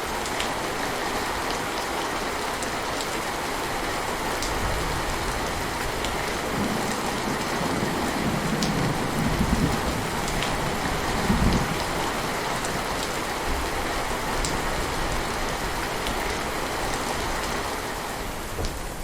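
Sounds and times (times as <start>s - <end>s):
heavy rain on a surface: 0.0s - 19.0s.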